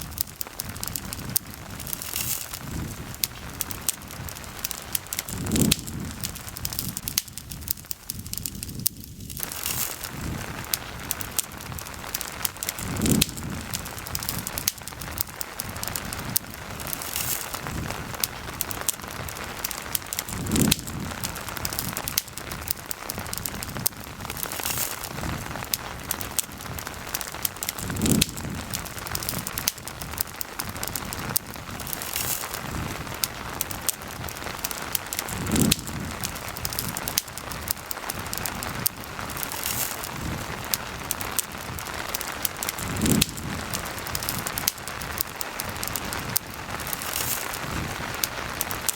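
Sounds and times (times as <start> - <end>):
campfire crackling and popping: 0.0 - 48.9
steady rain: 0.0 - 48.9.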